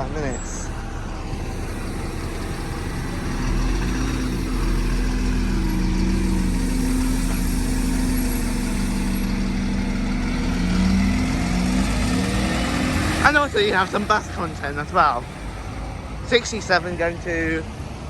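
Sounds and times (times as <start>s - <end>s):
diesel bus engine idling: 0.0s - 18.0s.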